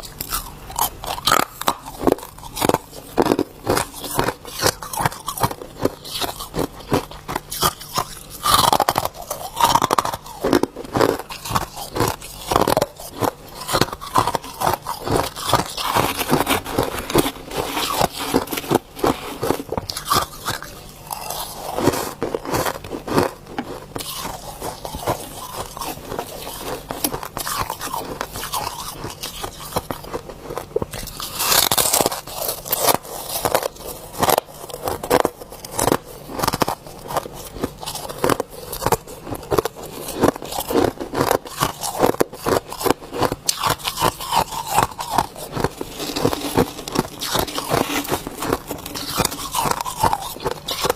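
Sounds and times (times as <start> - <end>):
ice being chewed: 0.0 - 50.9.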